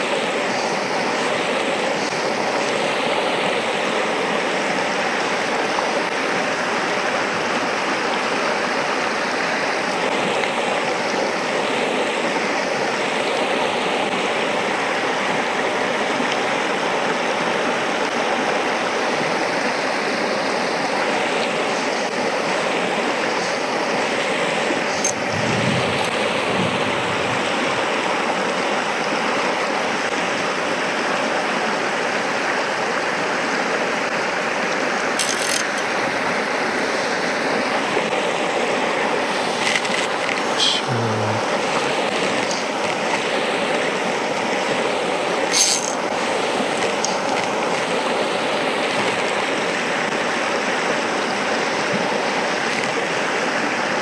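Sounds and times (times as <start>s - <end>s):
stream rushing over stones: 0.0s - 54.0s.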